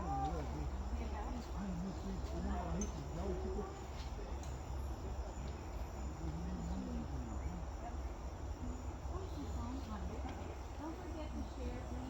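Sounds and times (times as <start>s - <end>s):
faint distant voices: 0.0s - 12.0s
insect chorus: 0.0s - 12.0s.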